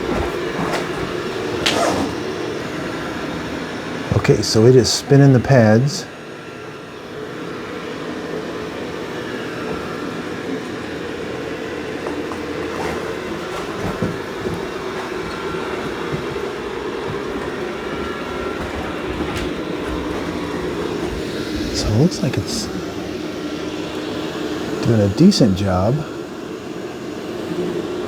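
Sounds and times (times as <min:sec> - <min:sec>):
robot vacuum humming: 0:00.0 - 0:28.0.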